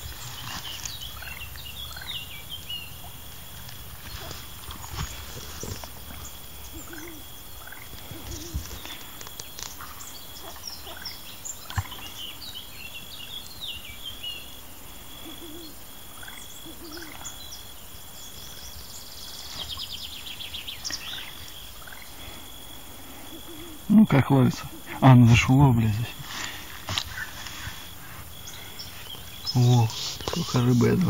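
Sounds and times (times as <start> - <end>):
birds chirping and calling: 0.0 - 31.0
short low bird calls: 0.0 - 31.0.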